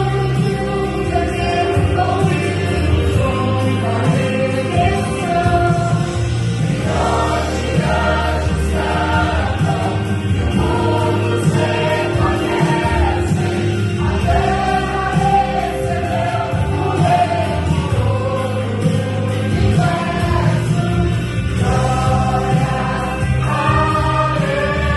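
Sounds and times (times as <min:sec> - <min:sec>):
instrumental bass: 0:00.0 - 0:24.9
vocal group singing gospel: 0:00.0 - 0:24.9.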